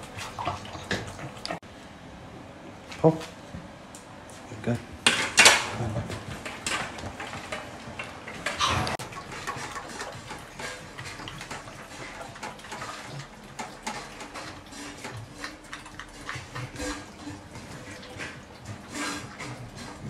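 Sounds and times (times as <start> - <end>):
puppy eating from metal bowl: 0.0 - 1.6, 5.0 - 20.0.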